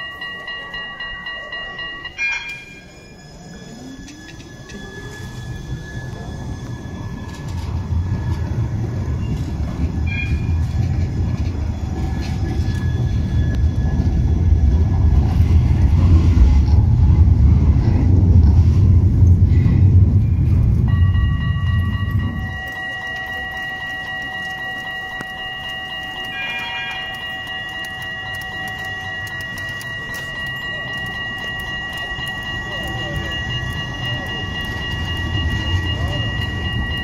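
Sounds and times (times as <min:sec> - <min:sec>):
faint tram whine: 0:00.0 - 0:37.0
tram wheels rumbling on rails: 0:00.0 - 0:37.0.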